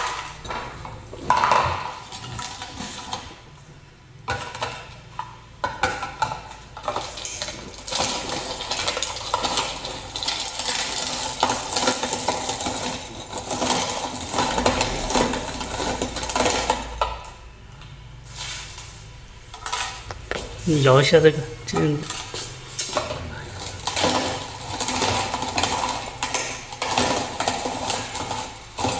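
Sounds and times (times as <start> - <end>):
meat grinder crunching rattle: 0.0 - 3.4, 4.3 - 17.4, 21.8 - 28.9.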